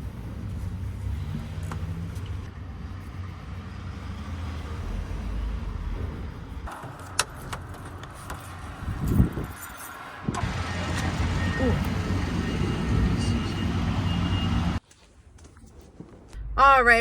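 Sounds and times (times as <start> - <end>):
motor vehicle rumble: 0.0 - 14.8.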